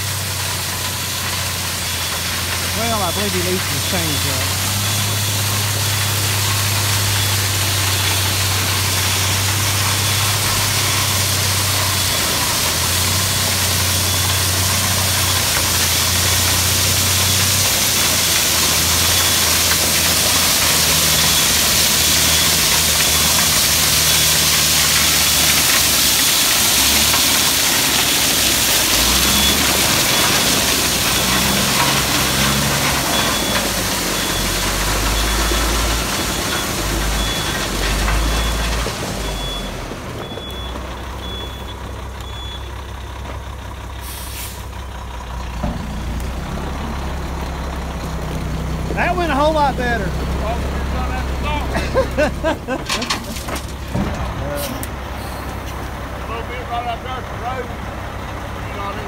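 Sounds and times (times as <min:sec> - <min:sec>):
gravel pouring from truck bed: 0:00.0 - 0:57.8, 0:58.5 - 0:59.0
diesel engine running: 0:00.0 - 0:59.0.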